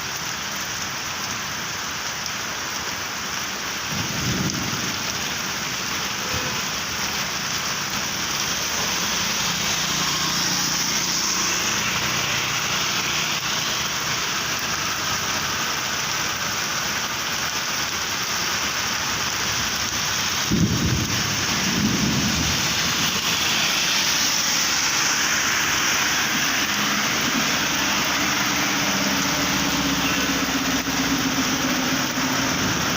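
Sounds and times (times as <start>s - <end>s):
heavy rain on road and water: 0.0s - 32.9s.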